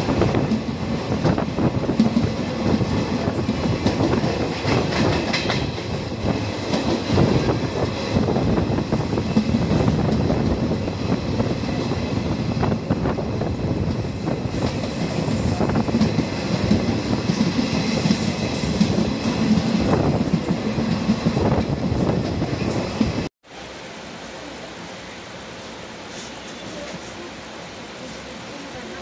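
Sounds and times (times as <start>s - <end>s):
rail joint clicks: 0.0s - 23.3s
train wheels rumbling on rail: 0.0s - 23.3s, 24.4s - 29.0s.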